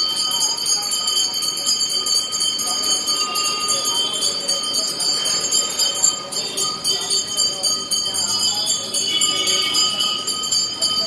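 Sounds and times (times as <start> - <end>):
temple bells ringing rapidly: 0.0 - 11.0.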